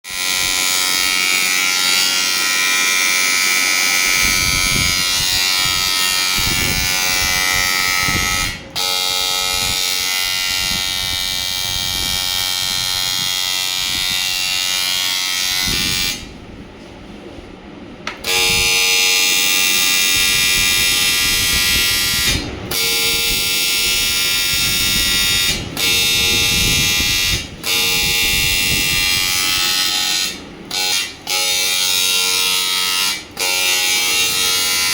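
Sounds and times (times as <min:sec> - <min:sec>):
welding arc electrical buzz: 0:00.1 - 0:16.4, 0:18.1 - 0:34.9.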